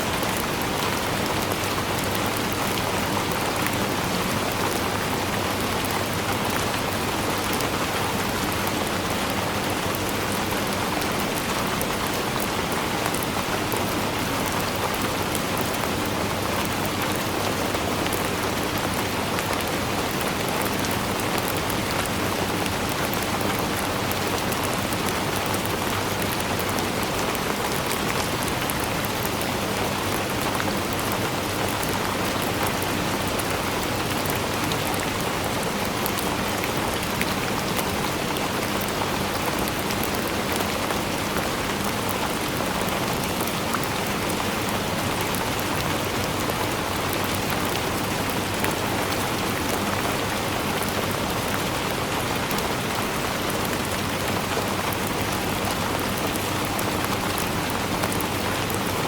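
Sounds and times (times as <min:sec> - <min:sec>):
heavy rain pattering: 0:00.0 - 0:59.0.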